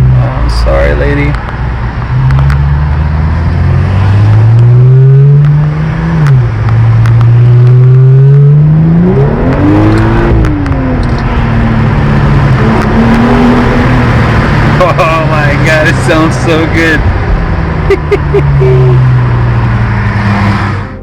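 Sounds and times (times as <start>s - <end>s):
car exhaust accelerating: 0.0s - 21.0s.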